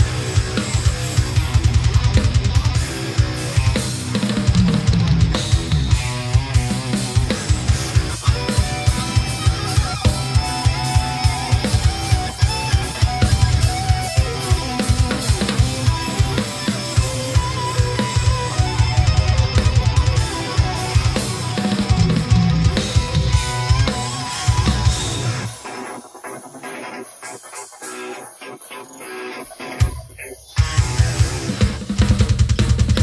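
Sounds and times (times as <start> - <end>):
fast drum kit playing: 0.0 - 33.0
metal guitar backing track: 0.0 - 33.0.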